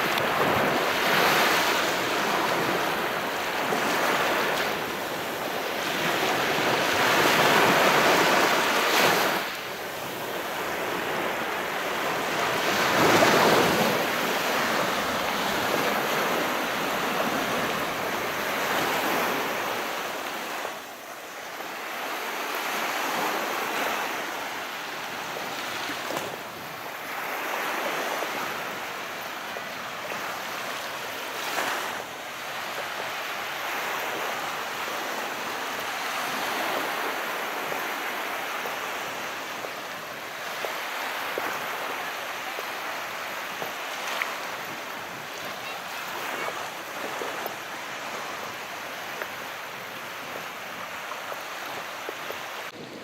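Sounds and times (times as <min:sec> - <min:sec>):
small sea waves breaking: 0:00.0 - 0:53.0.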